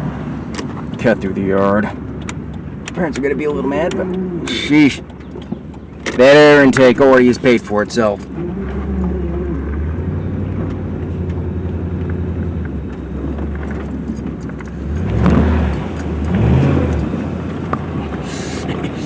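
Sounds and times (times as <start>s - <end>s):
truck engine revving: 3.6s - 19.0s.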